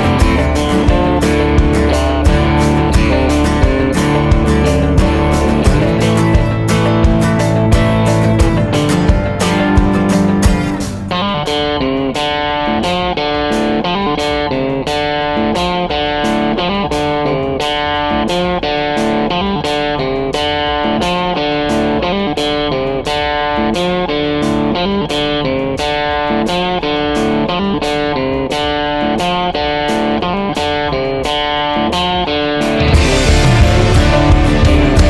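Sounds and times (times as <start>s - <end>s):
electric guitar instrumental with beat: 0.0s - 35.0s.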